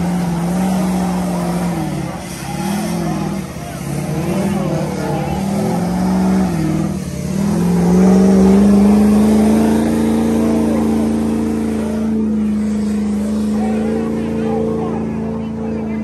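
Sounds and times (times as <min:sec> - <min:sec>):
tire spinning: 0:00.0 - 0:16.0
truck engine revving hard: 0:00.0 - 0:16.0.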